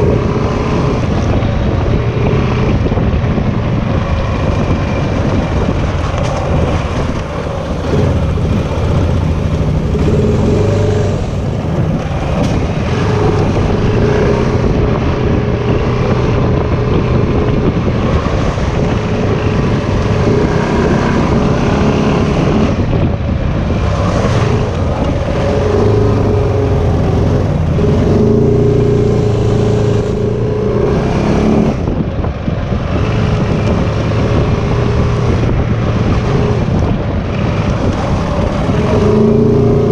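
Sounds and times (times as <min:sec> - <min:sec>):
off-road vehicle engine revving: 0:00.0 - 0:39.9
steady rushing noise: 0:00.0 - 0:39.9.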